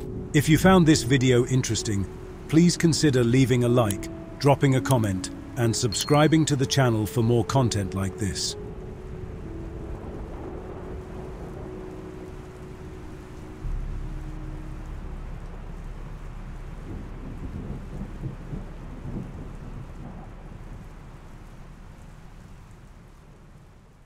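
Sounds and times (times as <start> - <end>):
steady rain hiss: 0.0 - 24.0
thunder rumbling: 0.0 - 24.0.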